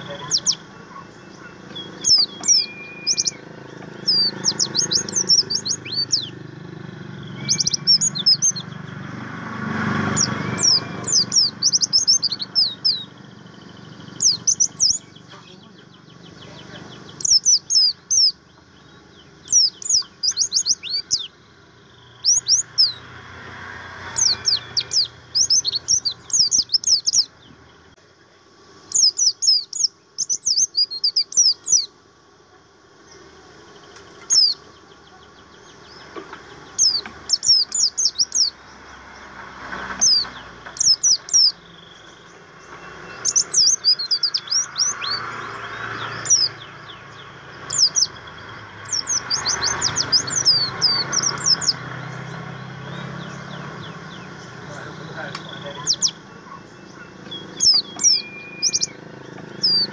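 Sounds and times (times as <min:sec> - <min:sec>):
bird singing high twittering chirps: 0:00.0 - 0:32.0, 0:33.0 - 0:59.9.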